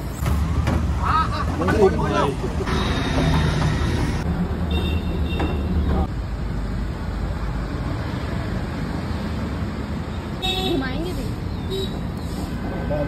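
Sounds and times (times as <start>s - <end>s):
heavy vehicle engine rumbling: 0.0s - 13.0s
road noise: 0.0s - 13.0s.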